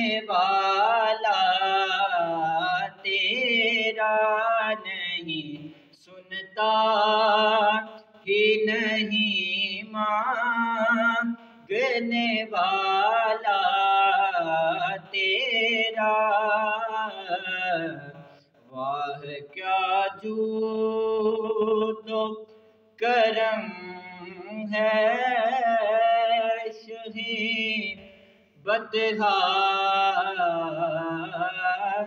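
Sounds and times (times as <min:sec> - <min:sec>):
man reciting unaccompanied: 0:00.0 - 0:32.0.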